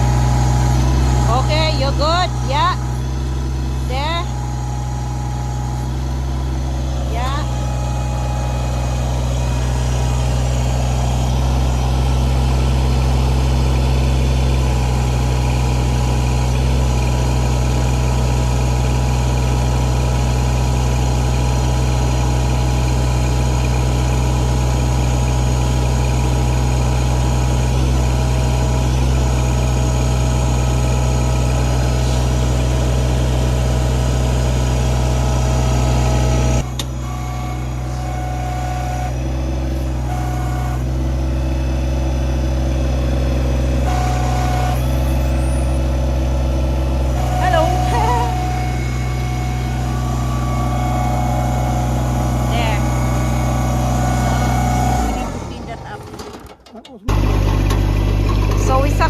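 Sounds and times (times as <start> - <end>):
diesel tractor engine idling: 0.0 - 59.0.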